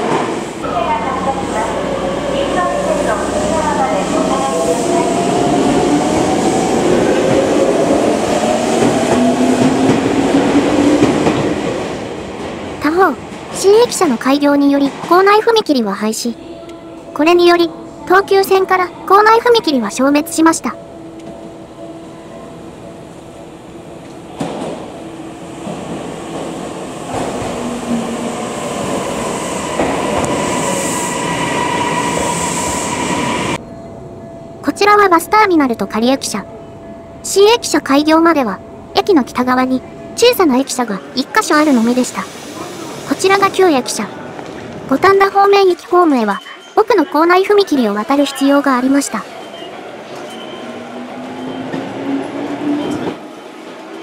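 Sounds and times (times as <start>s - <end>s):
electric train pulling in: 0.0s - 14.2s, 16.3s - 46.8s, 49.2s - 54.0s.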